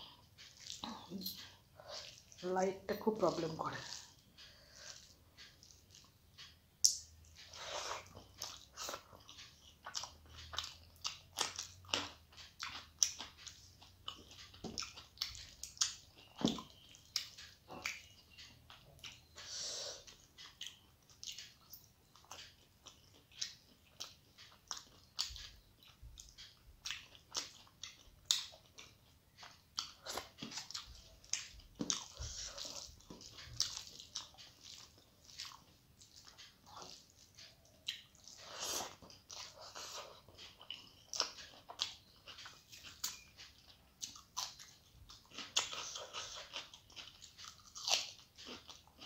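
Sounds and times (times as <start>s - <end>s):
chewing with wet mouth clicks: 0.0s - 49.0s.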